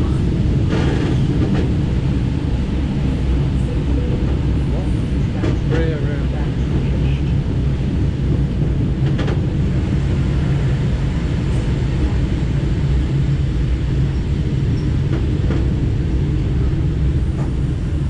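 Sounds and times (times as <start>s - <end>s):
train motors and wheels rumbling: 0.0s - 18.0s.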